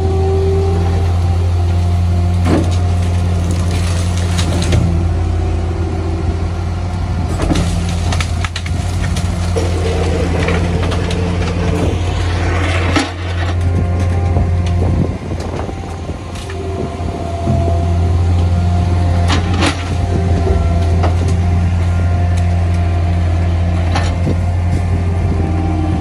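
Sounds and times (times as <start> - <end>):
loader engine running: 0.0 - 26.0.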